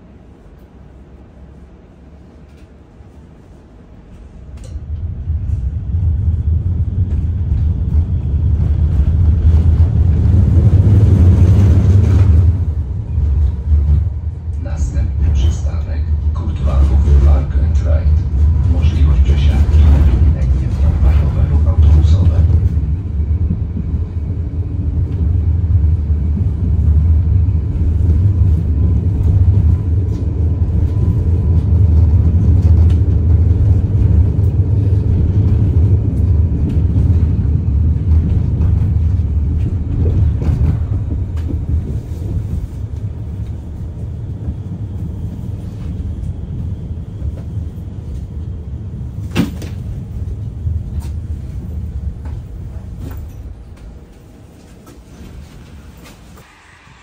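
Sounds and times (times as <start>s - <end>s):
tram rumbling: 0.0s - 57.0s.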